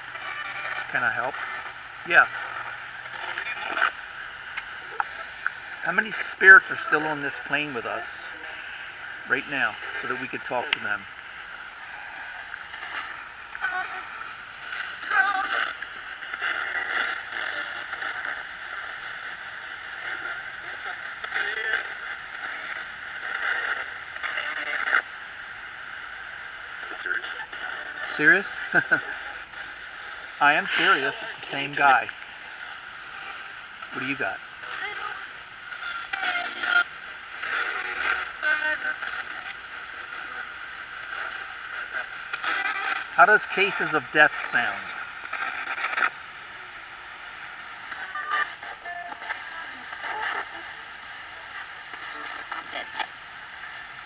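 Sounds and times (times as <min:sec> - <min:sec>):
radio static sweeping stations: 0:00.0 - 0:54.0.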